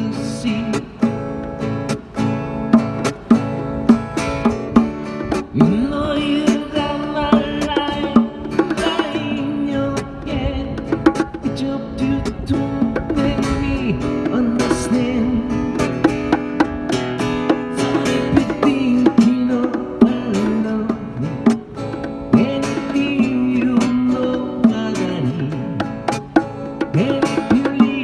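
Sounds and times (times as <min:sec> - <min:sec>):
acoustic guitar instrumental: 0:00.0 - 0:28.0.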